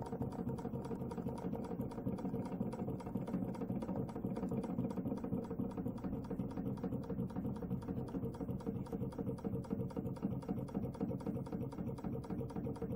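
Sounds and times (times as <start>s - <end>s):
model engine ticking: 0.0s - 12.9s
steady low hum: 0.0s - 12.9s.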